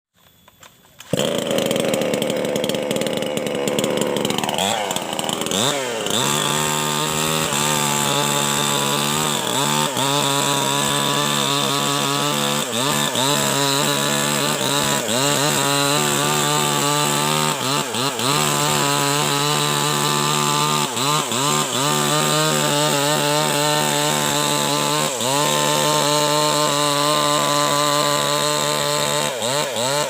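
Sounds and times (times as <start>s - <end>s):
chainsaw revving: 1.0s - 30.0s.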